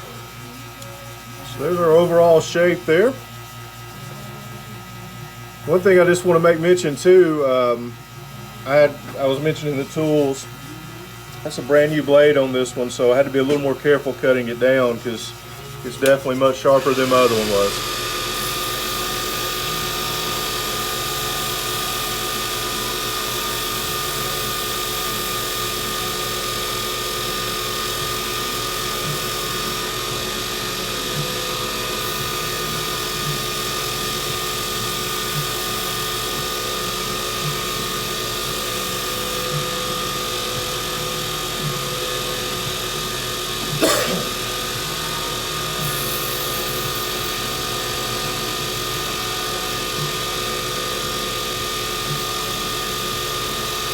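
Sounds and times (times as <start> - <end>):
wood lathe motor whine: 0.0 - 53.9.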